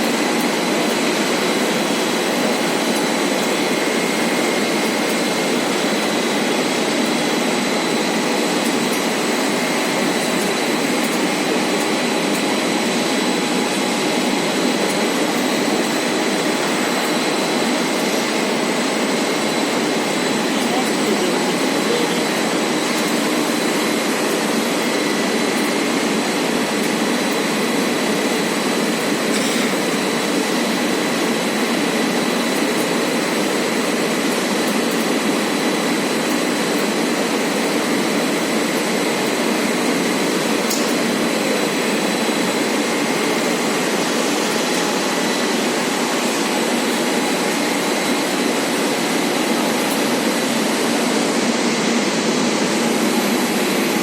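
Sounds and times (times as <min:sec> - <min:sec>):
thin high machine whine: 0:00.0 - 0:54.0.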